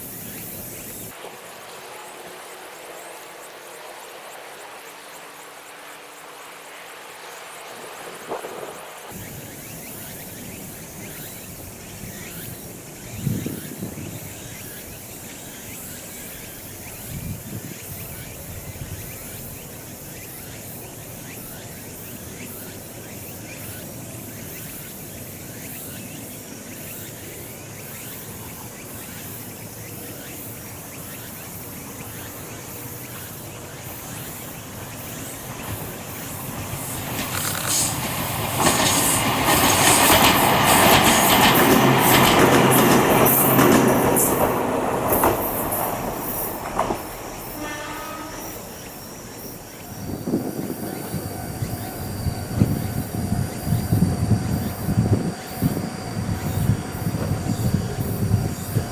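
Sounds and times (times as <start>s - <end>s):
electric train approaching: 0.0s - 58.9s
insects chirping: 0.0s - 58.9s.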